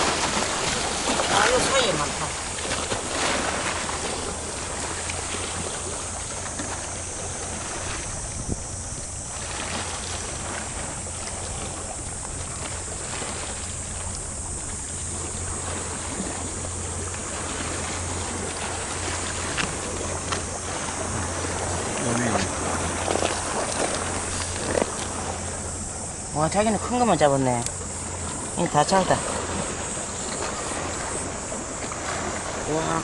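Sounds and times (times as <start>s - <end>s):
low steady hum: 0.0s - 33.0s
sea water washing: 0.0s - 33.0s
wind: 0.0s - 33.0s.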